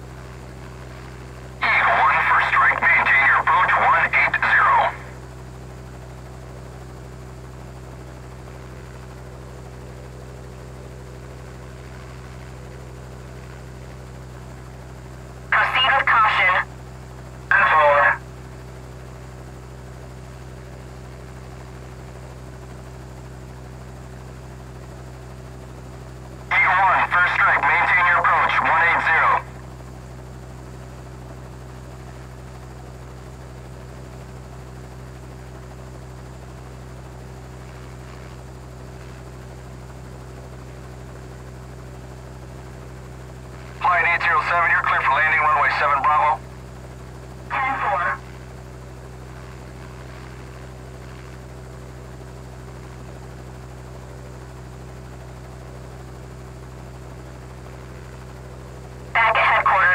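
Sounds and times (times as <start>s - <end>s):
helicopter engine and rotor hum: 0.0s - 59.9s.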